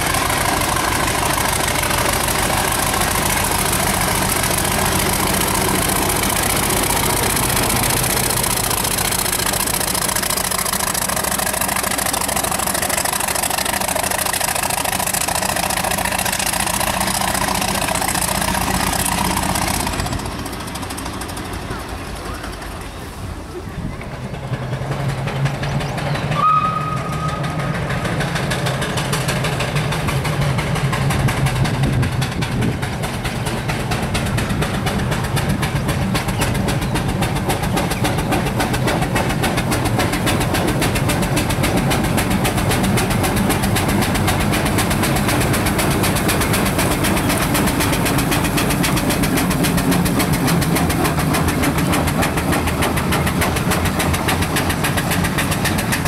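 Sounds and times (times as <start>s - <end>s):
steam engine exhaust beating: 0.0s - 56.0s.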